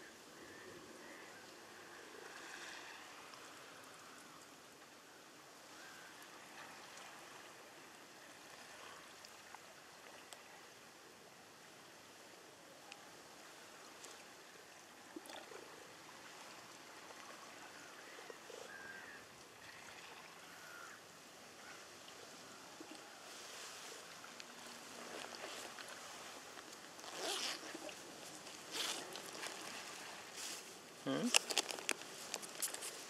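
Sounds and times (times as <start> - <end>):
faint outdoor hiss: 0.0 - 33.0.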